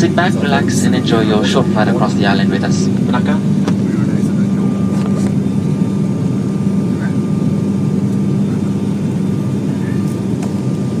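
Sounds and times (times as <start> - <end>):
turboprop cabin drone: 0.0 - 11.0.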